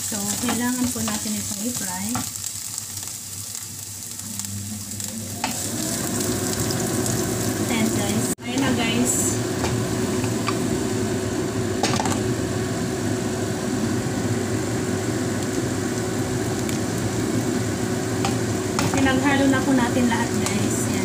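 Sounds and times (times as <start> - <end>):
vegetables sizzling in pan: 0.0 - 21.0
low hum: 4.2 - 21.0.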